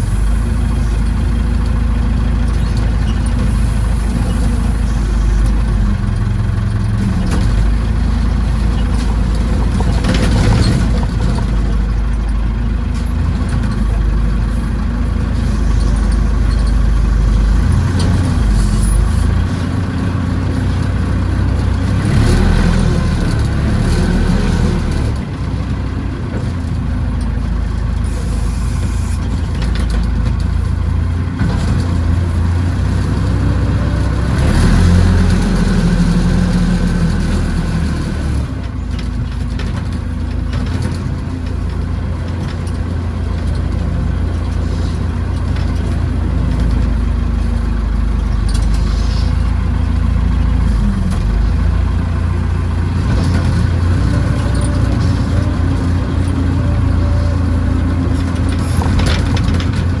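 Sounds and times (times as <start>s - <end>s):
backhoe engine running: 0.0s - 60.0s.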